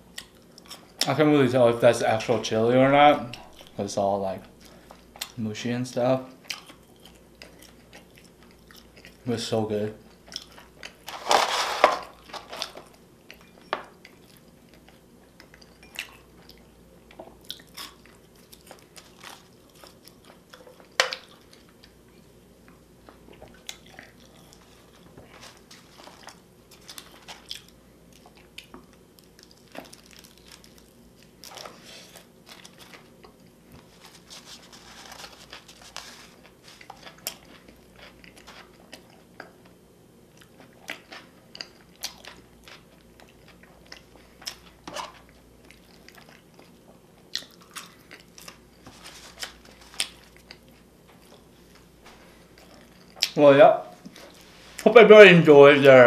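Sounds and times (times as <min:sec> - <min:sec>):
person chewing food: 0:00.0 - 0:01.1, 0:06.4 - 0:09.2, 0:10.1 - 0:11.1, 0:12.1 - 0:53.4.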